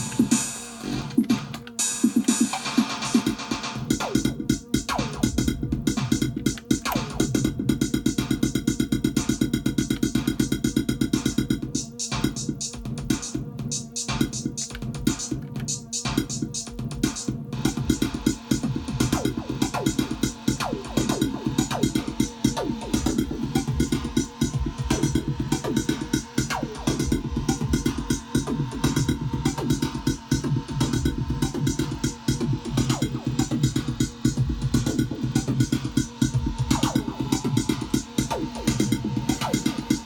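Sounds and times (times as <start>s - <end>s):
drum machine fast beat: 0.0s - 40.0s
low synthesizer tones: 3.8s - 40.0s.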